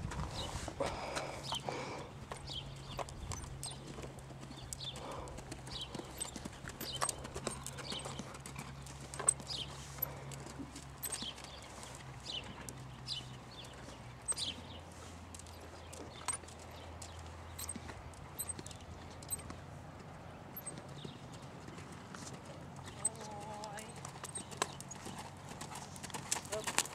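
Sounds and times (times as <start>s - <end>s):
horse hoofbeats on sand: 2.2s - 26.9s.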